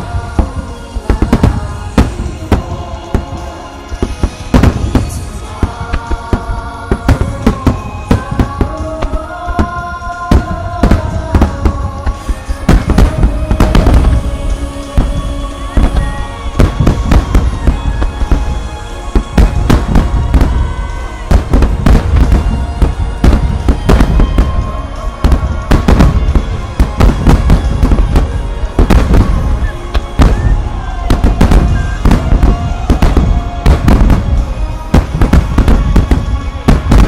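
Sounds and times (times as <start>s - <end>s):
fireworks booming and crackling: 0.0s - 37.0s
music: 0.0s - 37.0s.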